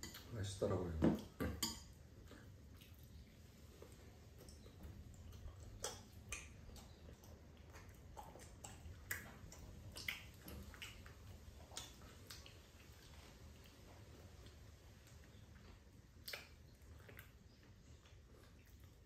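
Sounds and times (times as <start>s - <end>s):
wet chewing mouth clicks: 2.2s - 19.0s.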